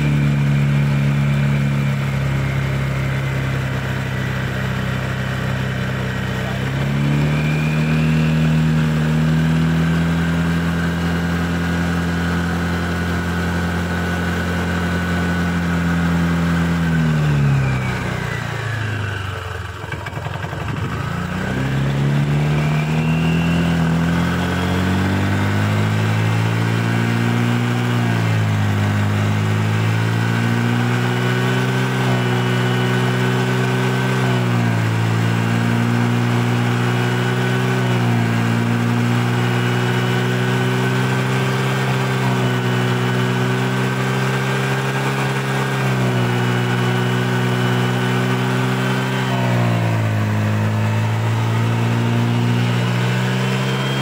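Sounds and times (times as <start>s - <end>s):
scooter engine at raised revs: 0.0s - 54.0s.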